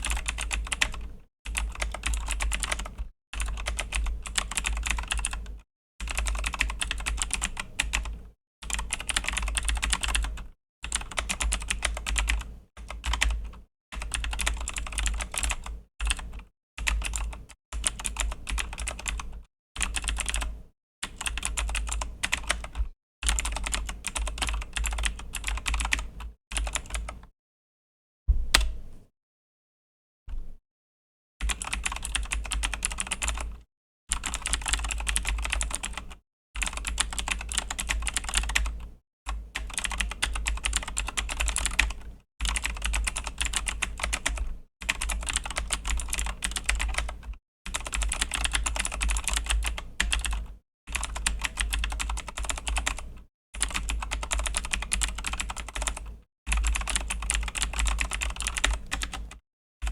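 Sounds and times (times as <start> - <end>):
typing on mechanical keyboard: 0.0 - 27.2, 31.5 - 59.9.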